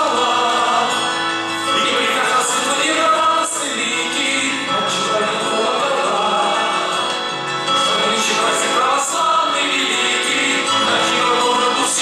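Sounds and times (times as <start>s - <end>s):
male choir singing chords: 0.0s - 12.0s.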